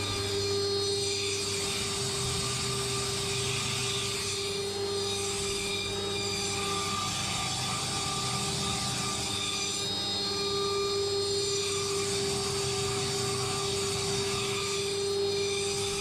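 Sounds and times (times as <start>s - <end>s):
router spindle whining milling wood: 0.0s - 16.0s.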